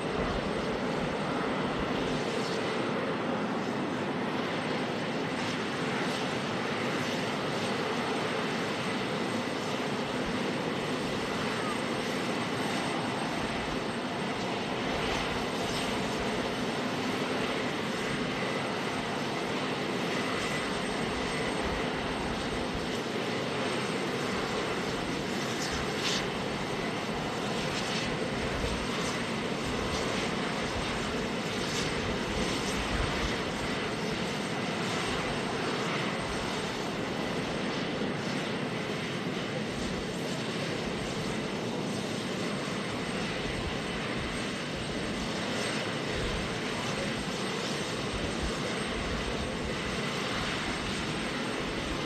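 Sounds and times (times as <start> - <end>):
aircraft turbine engines running: 0.0 - 52.0.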